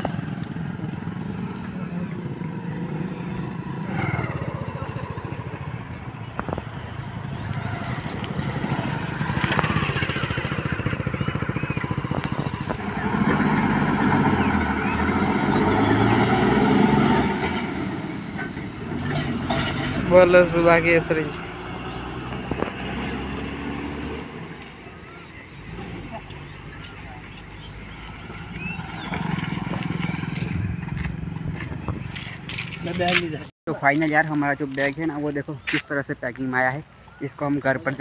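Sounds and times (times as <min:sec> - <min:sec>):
vehicle engines passing: 0:00.0 - 0:38.0.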